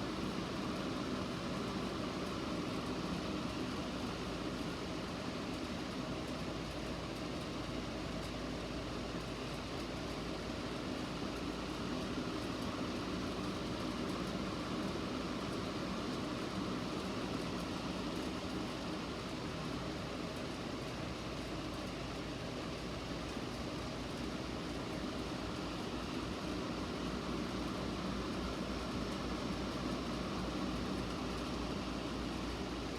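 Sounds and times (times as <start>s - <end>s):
low hum with hiss: 0.0s - 32.9s.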